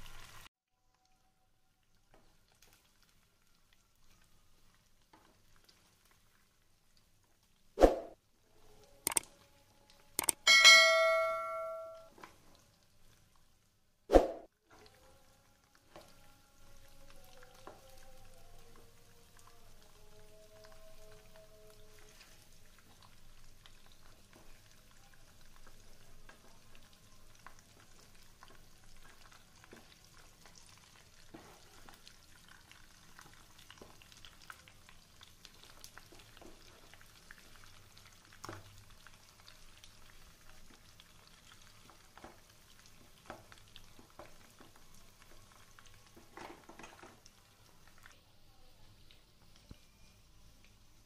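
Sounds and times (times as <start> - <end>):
curry frying in a pan: 0.0 - 0.5, 1.5 - 10.1, 12.1 - 51.0.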